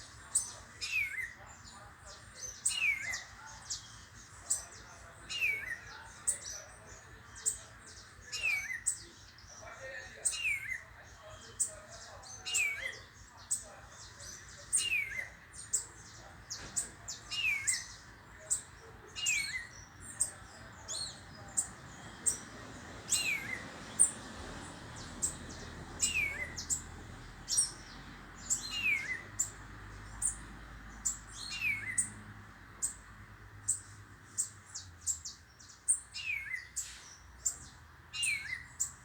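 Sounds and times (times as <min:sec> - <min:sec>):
birds chirping and calling: 0:00.0 - 0:39.0.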